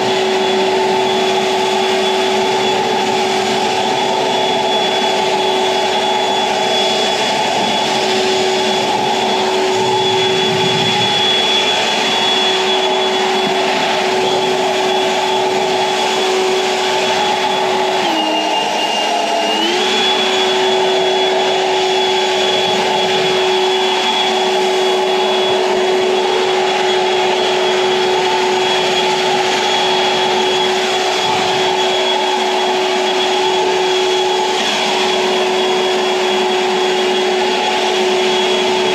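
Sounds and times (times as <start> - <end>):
leaf blower running: 0.0 - 38.9.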